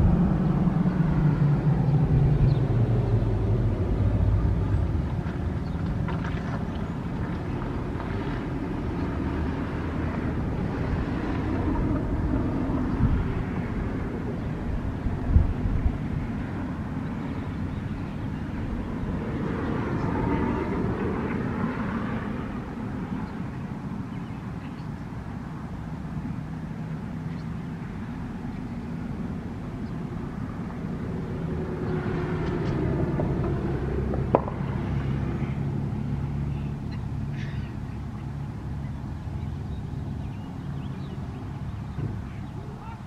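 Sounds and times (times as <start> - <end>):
cars passing: 0.0 - 43.0.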